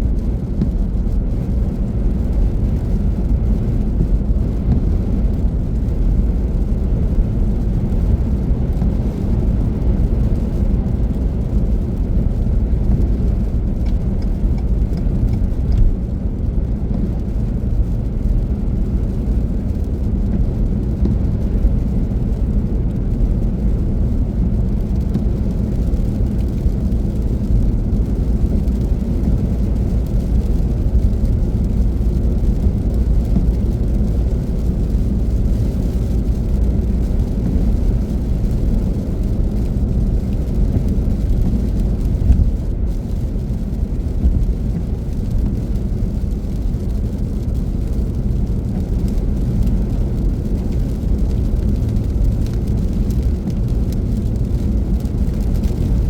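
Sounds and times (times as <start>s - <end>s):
car driving at speed: 0.0s - 56.0s.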